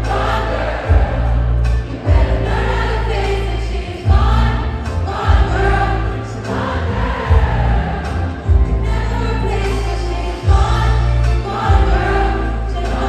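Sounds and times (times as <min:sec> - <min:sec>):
heavy deep bass: 0:00.0 - 0:13.0.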